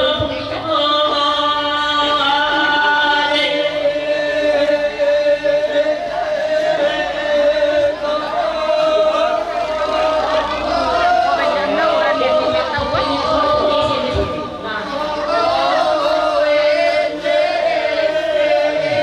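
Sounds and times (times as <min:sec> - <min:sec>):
voices singing slow chant: 0:00.0 - 0:19.0.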